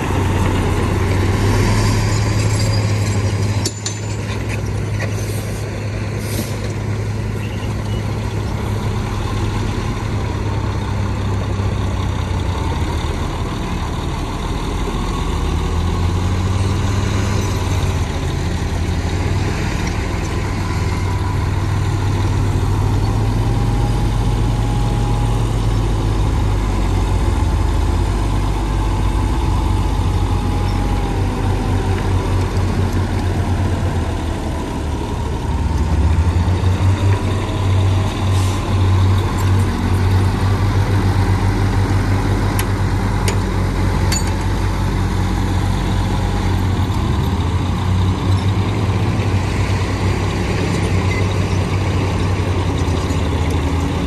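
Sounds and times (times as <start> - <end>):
heavy diesel engine humming: 0.0 - 54.0.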